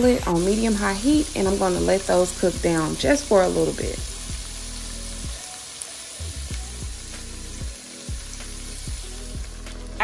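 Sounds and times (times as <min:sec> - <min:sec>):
soft background music: 0:00.0 - 0:10.0
vegetables sizzling in a skillet: 0:00.0 - 0:10.0.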